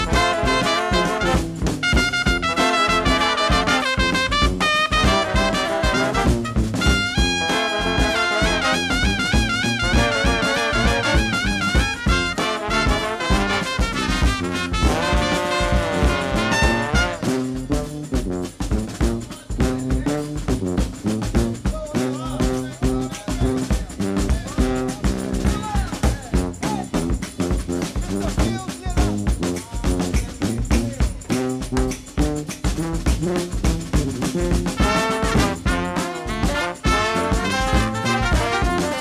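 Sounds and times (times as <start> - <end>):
drums: 0.0 - 39.0
instrumental music with beat: 0.0 - 39.0.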